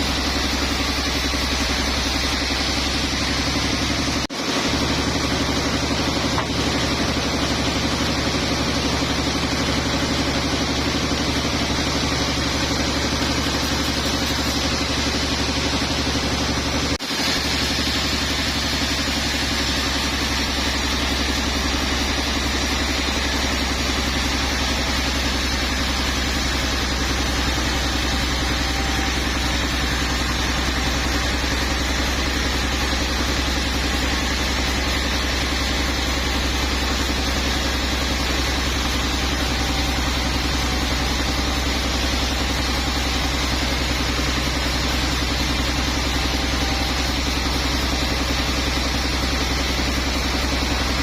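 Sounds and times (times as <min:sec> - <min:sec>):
sawmill machinery humming: 0:00.0 - 0:51.0.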